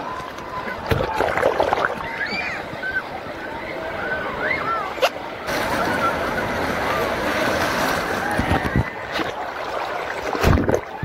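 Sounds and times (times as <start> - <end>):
distant voices: 0.0 - 11.0
rushing splashing water: 0.0 - 11.0.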